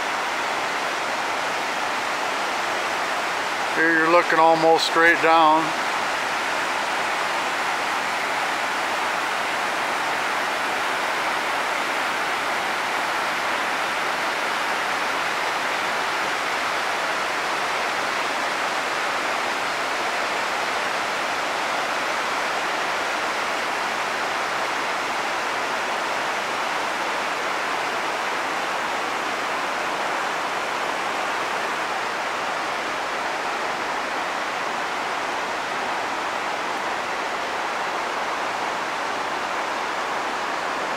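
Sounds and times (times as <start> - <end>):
whitewater rushing over rocks: 0.0 - 40.9.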